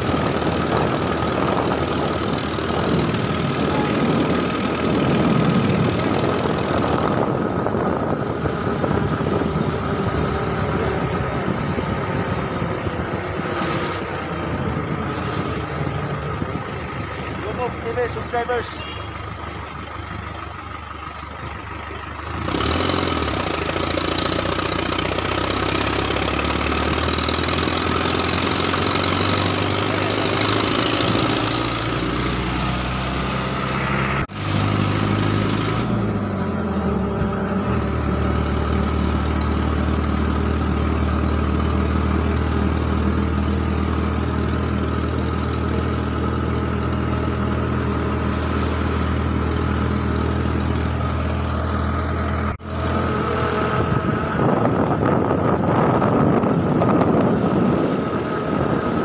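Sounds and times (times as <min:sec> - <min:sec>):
road and wind noise: 0:00.0 - 0:59.0
truck engine running: 0:00.0 - 0:59.0.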